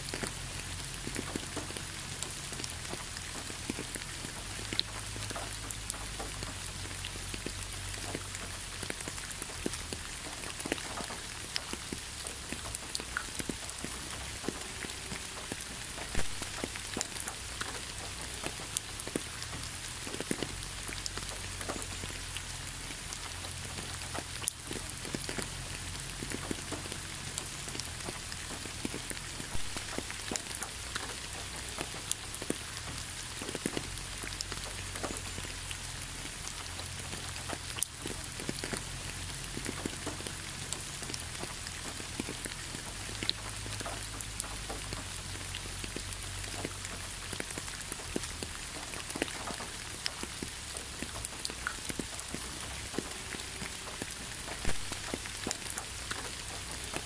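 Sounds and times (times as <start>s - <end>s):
raindrops tapping: 0.0s - 57.0s
steady rain hiss: 0.0s - 57.0s.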